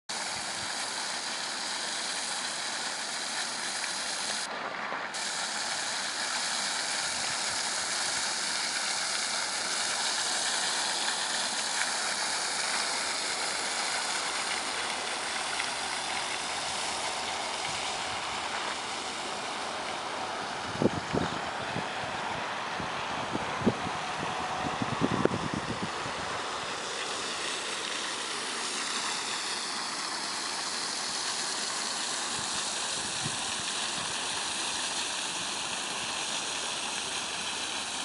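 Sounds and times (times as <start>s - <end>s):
water gushing onto plastic: 0.1s - 38.0s.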